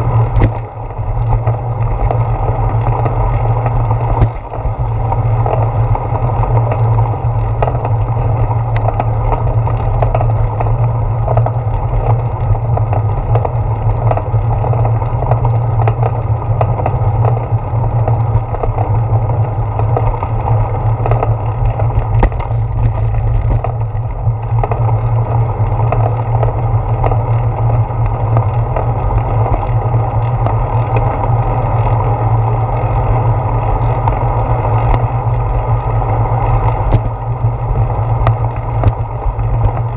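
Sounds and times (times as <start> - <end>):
bicycle tyre rumble on concrete: 0.0 - 39.9.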